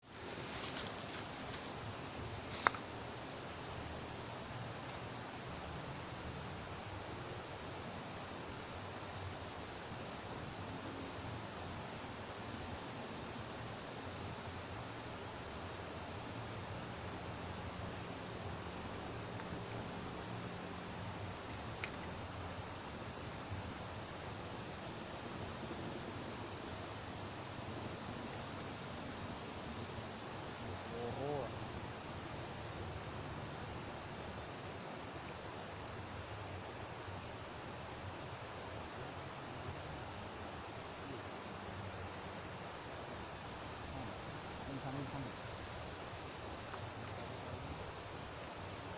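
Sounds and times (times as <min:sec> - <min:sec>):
background hiss: 0:00.0 - 0:48.9
high-pitched insect trill: 0:00.0 - 0:48.9.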